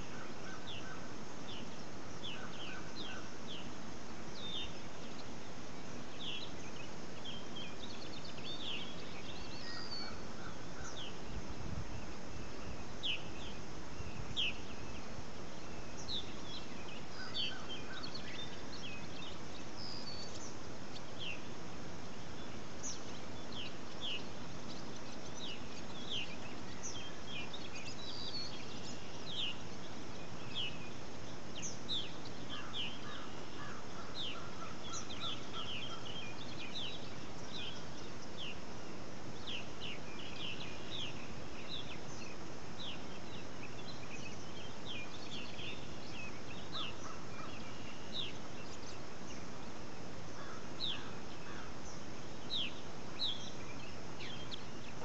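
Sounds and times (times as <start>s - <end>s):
birds chirping: 0.0s - 55.0s
lower repeated bird notes: 0.0s - 55.0s
steady background hiss: 0.0s - 55.0s.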